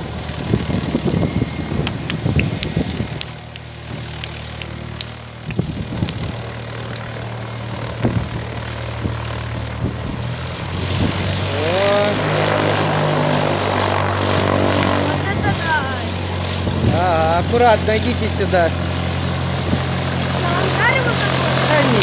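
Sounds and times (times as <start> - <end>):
light plane engine droning: 0.0 - 22.0.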